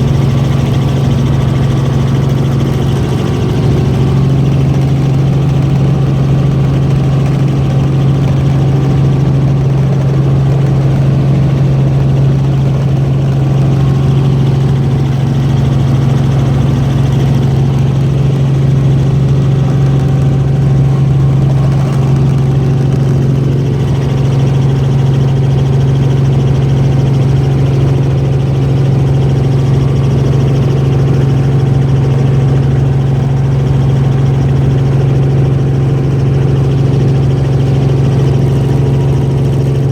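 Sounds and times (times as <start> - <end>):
helicopter drone from cabin: 0.0 - 39.9.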